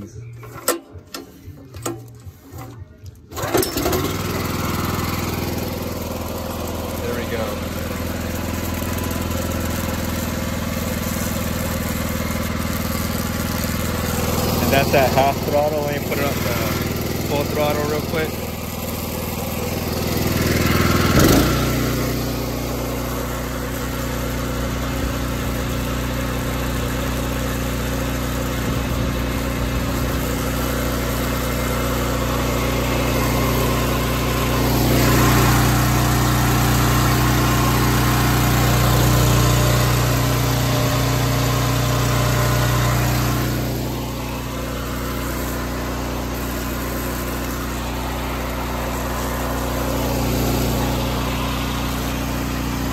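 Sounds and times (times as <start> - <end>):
pressure washer engine running: 0.0 - 52.9
pressure washer wand spraying: 4.6 - 52.9.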